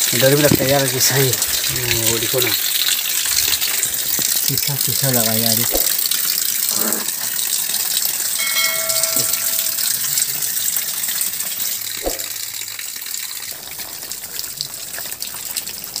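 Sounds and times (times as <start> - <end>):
water falling and splashing: 0.0 - 16.0.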